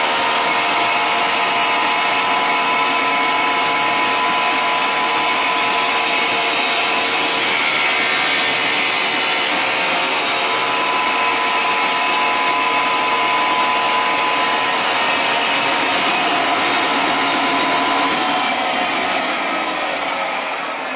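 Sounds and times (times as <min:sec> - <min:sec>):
machine motor grinding: 0:00.0 - 0:20.9.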